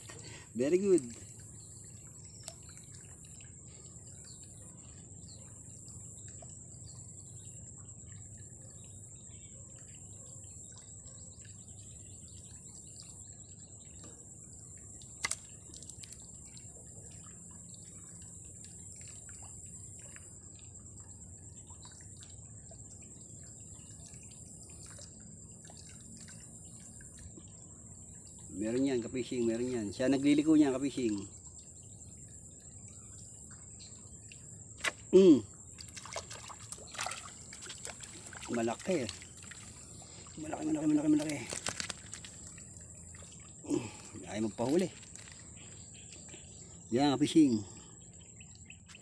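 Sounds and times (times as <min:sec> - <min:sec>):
faint bird chirps: 0:00.0 - 0:49.0.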